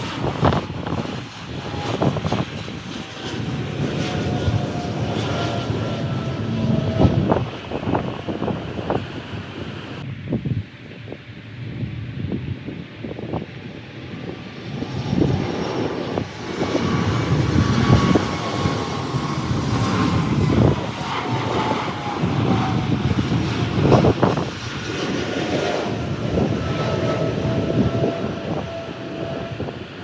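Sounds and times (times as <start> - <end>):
jet engines rushing and whining: 0.0 - 30.0
wind gusts on microphone: 0.0 - 30.0.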